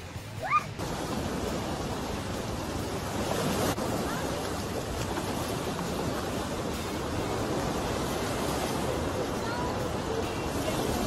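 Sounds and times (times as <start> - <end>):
ocean surf washing in: 0.0 - 11.0.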